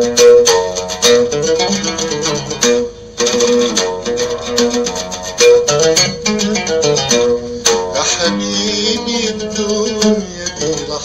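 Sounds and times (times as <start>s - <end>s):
oud plucked notes: 0.0s - 11.0s.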